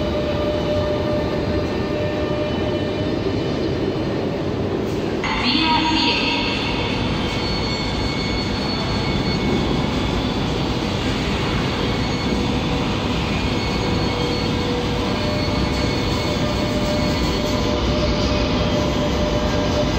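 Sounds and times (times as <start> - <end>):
train rumbling and whirring: 0.0 - 19.9.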